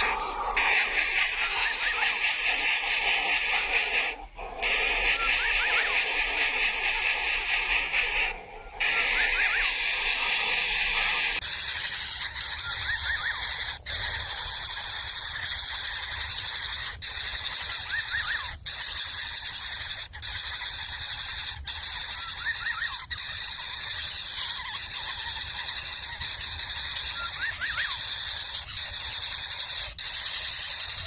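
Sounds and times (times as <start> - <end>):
high-pitched hissing drone: 0.0 - 7.9, 8.6 - 31.0.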